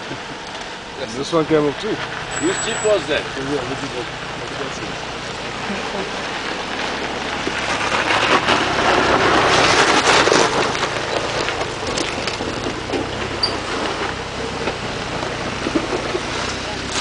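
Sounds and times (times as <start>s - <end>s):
engine idling: 0.0s - 17.0s
tyres crunching over dirt and stones: 0.3s - 17.0s.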